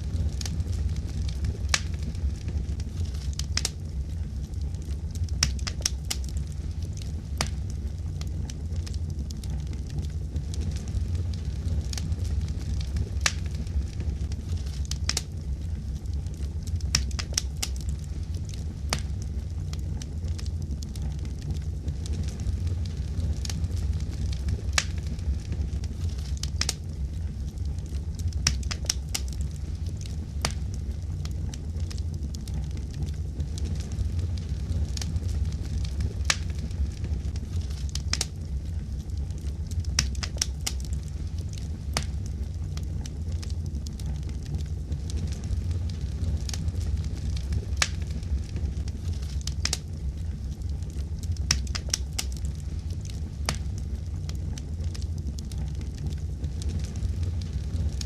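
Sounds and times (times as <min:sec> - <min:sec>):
fireplace fire crackling: 0:00.0 - 0:58.0
low rumble of flames: 0:00.0 - 0:58.0.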